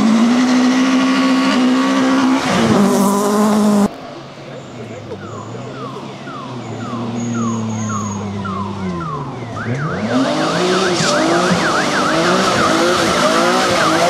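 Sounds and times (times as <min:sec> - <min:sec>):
rally car engine under load: 0:00.0 - 0:14.0.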